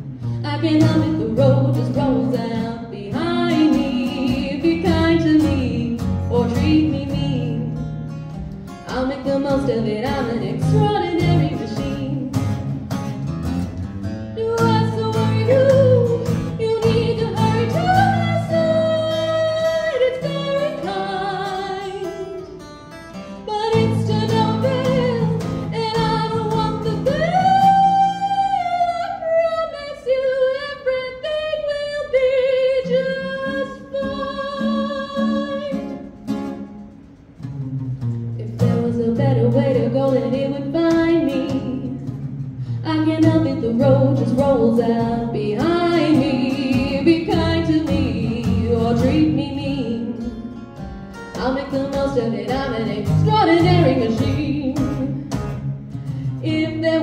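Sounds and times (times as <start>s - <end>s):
acoustic guitar chords: 0.0s - 57.0s
woman singing: 0.4s - 7.9s, 8.8s - 12.7s, 14.3s - 22.6s, 23.4s - 36.1s, 38.4s - 50.5s, 51.2s - 55.3s, 56.4s - 57.0s.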